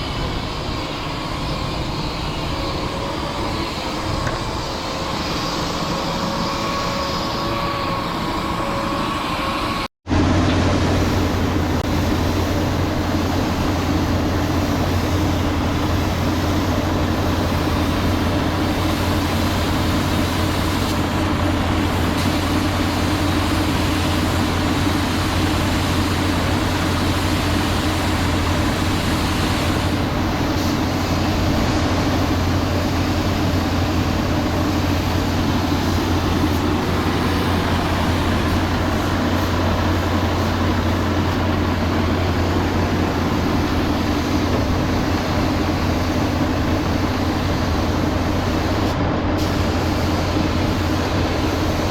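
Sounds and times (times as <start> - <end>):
low mechanical drone: 0.0 - 51.9.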